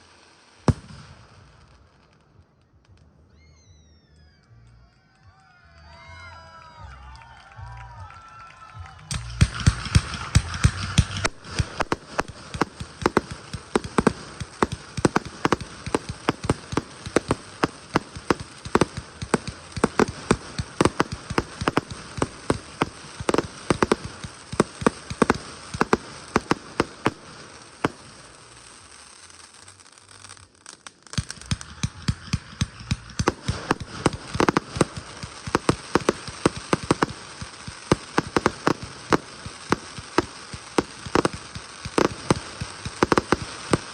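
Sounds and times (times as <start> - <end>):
fireworks crackling and popping: 0.0 - 8.0, 8.7 - 43.9.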